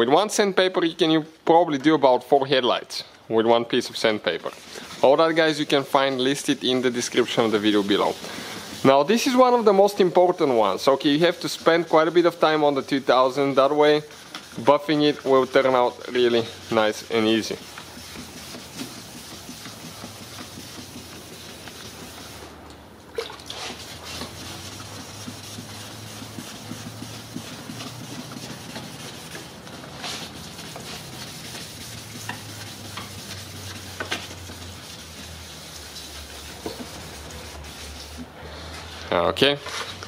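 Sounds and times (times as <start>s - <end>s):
wet sandpaper rubbing: 3.9s - 22.6s, 23.4s - 40.0s.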